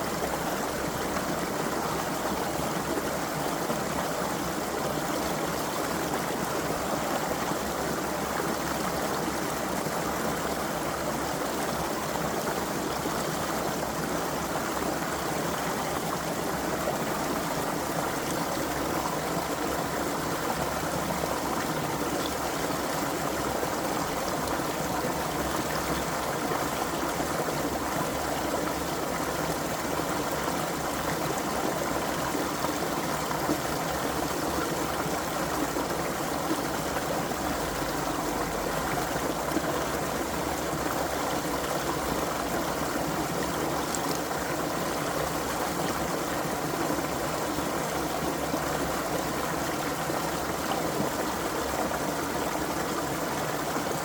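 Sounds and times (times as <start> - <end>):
creek flowing: 0.0 - 54.0.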